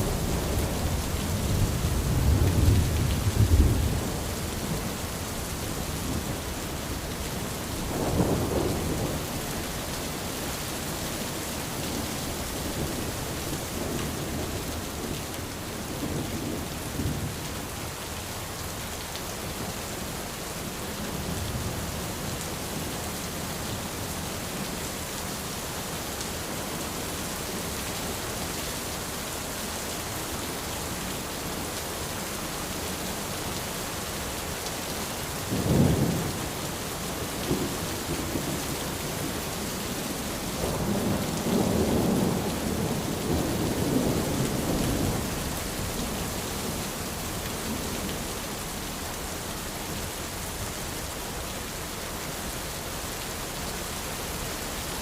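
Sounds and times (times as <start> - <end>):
rain on an umbrella: 0.0 - 55.0.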